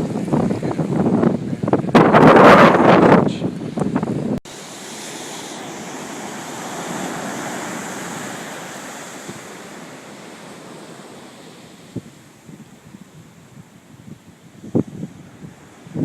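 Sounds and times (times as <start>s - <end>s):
ocean surf washing on beach: 0.0s - 16.0s.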